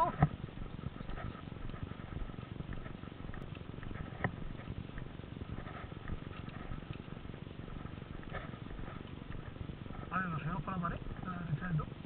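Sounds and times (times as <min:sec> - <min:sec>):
low microphone rumble: 0:00.0 - 0:12.0.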